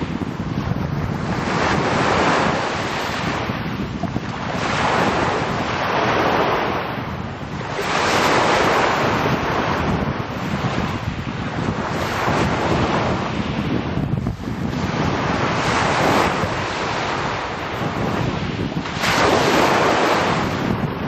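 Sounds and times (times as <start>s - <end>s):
waves washing up pebble beach: 0.0s - 21.0s.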